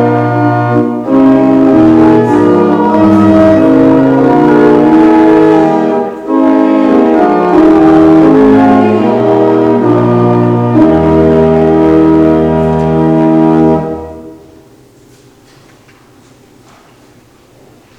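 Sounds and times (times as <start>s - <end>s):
church organ playing chords: 0.0s - 14.9s.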